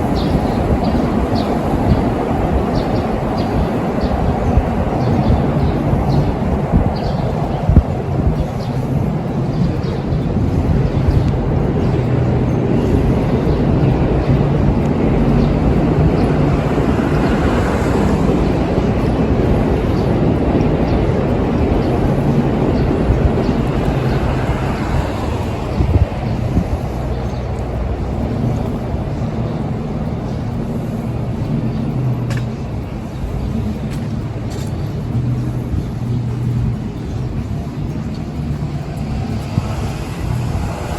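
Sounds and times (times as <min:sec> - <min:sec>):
moving vehicle rumbling: 0:00.0 - 0:40.9.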